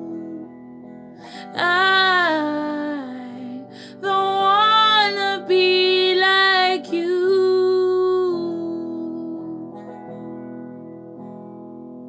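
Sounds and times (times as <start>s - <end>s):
woman singing without words: 0.0s - 9.9s
acoustic guitar: 0.0s - 12.0s.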